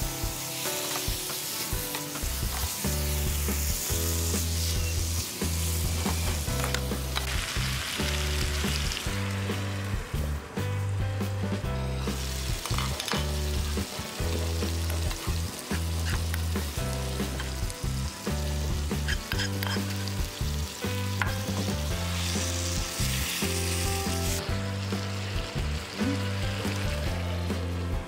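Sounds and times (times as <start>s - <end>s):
curry sizzling in a pan: 0.0s - 28.0s.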